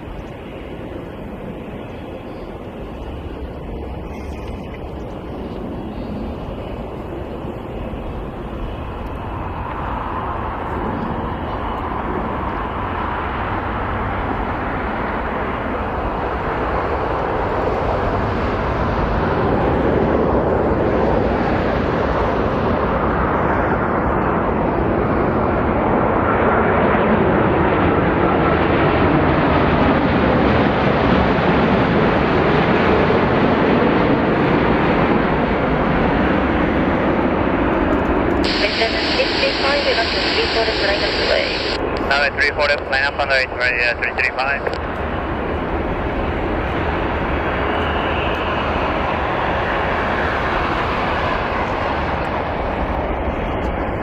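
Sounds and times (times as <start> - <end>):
airliner jet engine: 0.0 - 54.0.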